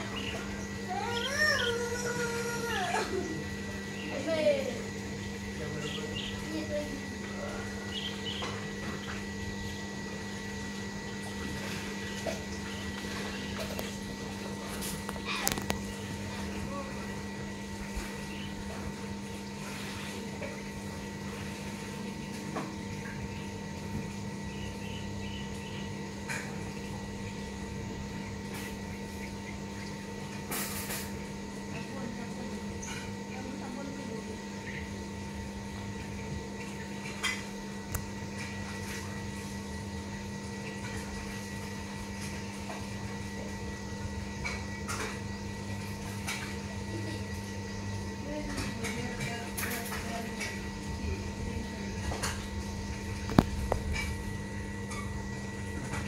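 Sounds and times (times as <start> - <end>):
machine hum with low rumble: 0.0 - 56.0.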